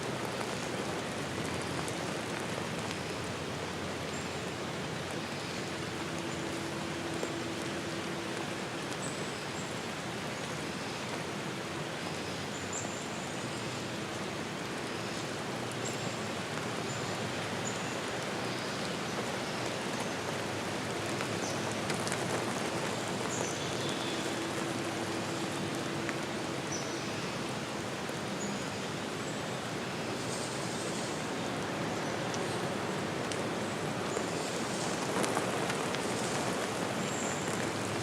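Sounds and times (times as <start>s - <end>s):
rushing water: 0.0s - 38.0s.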